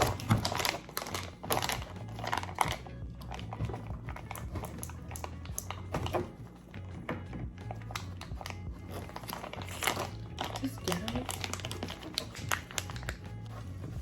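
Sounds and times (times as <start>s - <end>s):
plastic bag crinkling: 0.0s - 6.3s, 7.6s - 14.0s
sharp plastic crackles: 0.0s - 6.4s, 7.5s - 13.5s.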